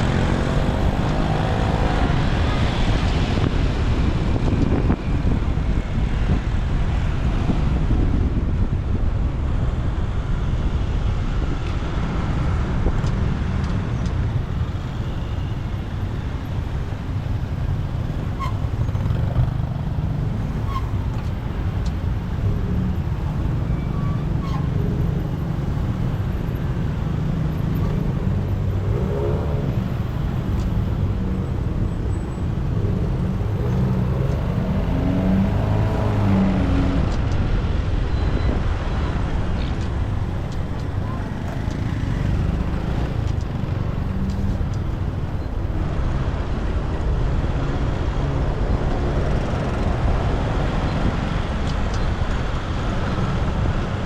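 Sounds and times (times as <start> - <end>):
road rumble: 0.0 - 54.0
surrounding traffic: 0.0 - 54.0.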